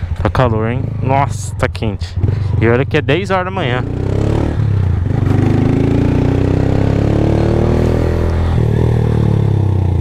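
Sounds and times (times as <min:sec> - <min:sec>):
motorcycle engine accelerating: 0:00.8 - 0:10.0.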